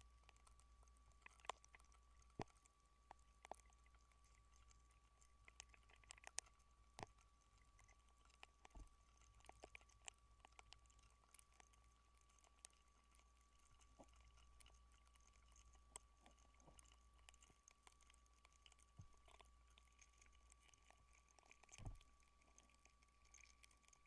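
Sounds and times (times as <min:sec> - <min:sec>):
faint clicks and crackles: 0:00.0 - 0:24.0.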